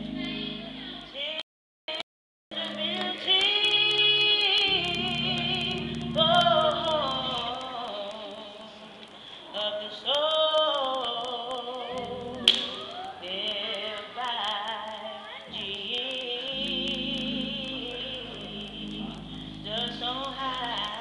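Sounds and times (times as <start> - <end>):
woman singing with vibrato: 0.0 - 9.0, 9.6 - 21.0.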